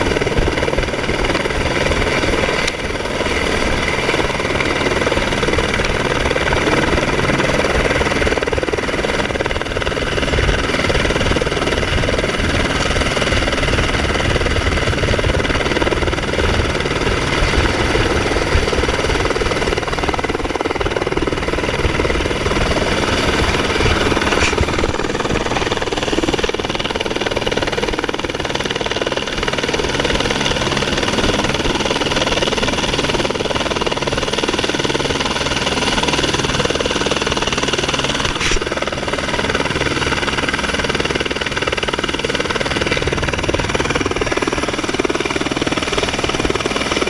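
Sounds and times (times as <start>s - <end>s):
helicopter engine whine: 0.0s - 47.0s
helicopter rotor blades beating: 0.0s - 47.0s.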